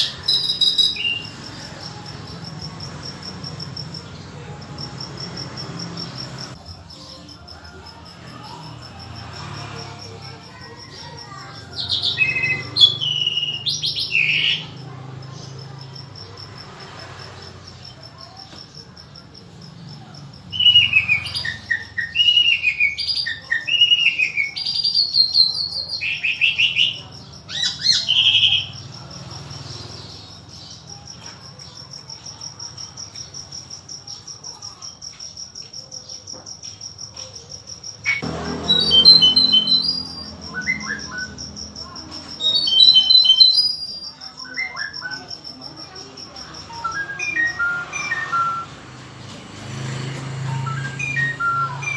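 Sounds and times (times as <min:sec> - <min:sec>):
high pulsing insect-like trill: 0:00.0 - 0:51.9
songbird singing: 0:00.0 - 0:51.9.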